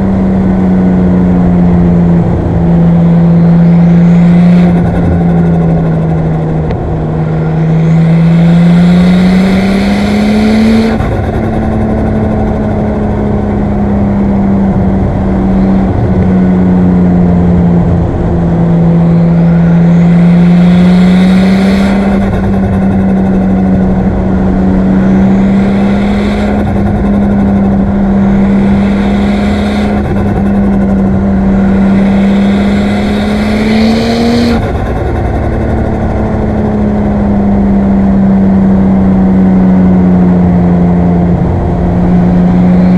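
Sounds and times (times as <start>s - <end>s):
car engine under part throttle: 0.0s - 42.9s.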